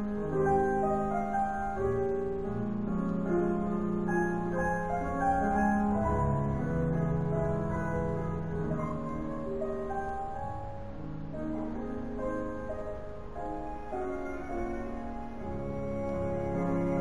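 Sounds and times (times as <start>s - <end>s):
slow classical piano music: 0.0s - 17.0s.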